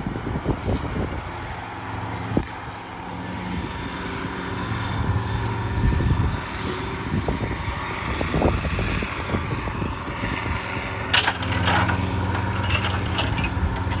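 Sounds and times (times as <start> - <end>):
dragline excavator engine drone: 0.0 - 14.0.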